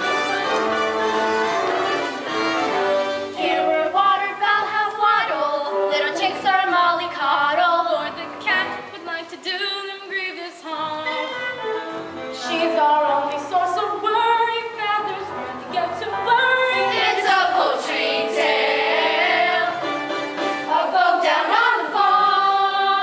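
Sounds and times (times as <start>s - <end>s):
instrumental comic song music: 0.0s - 9.1s, 10.7s - 23.0s.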